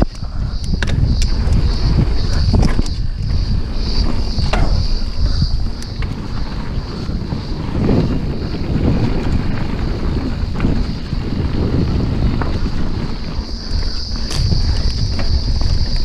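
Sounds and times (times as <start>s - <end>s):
bike clattering clicks: 0.0s - 16.0s
wind buffeting microphone: 0.0s - 16.0s
tyres rumbling on dirt: 0.8s - 16.0s.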